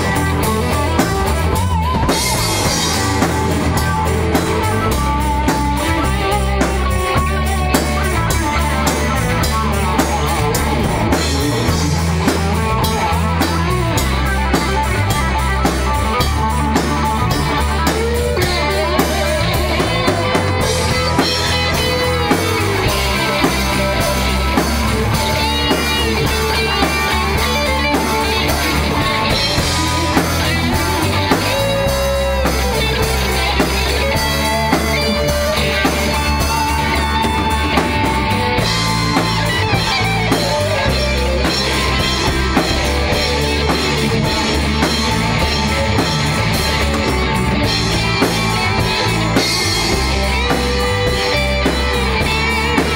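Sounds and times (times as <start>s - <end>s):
drum kit beat: 0.0s - 52.9s
electric guitar: 0.0s - 52.9s.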